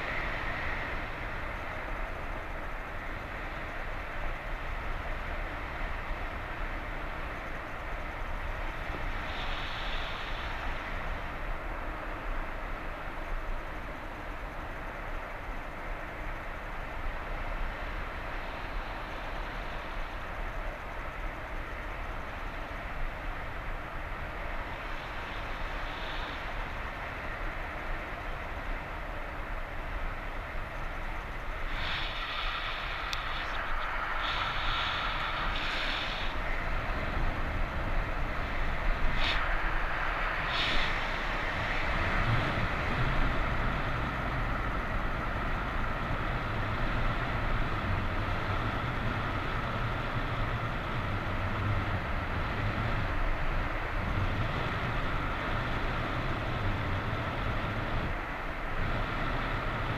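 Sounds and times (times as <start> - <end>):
wind roaring over microphone: 0.0 - 59.9.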